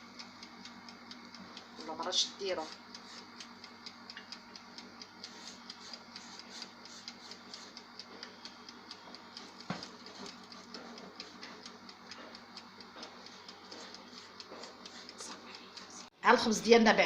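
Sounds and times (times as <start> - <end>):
mechanical timer ticking: 0.0 - 17.0.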